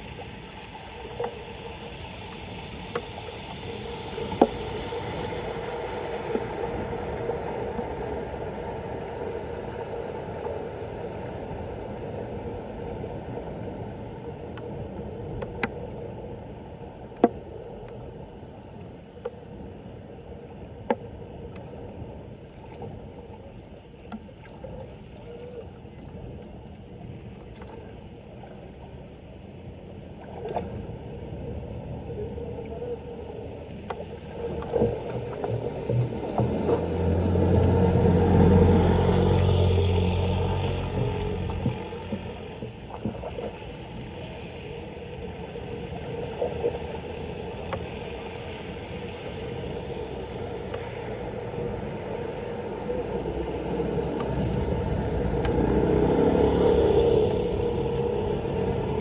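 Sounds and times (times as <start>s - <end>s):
floodwater rushing down a drain: 0.0s - 16.8s, 21.2s - 59.0s.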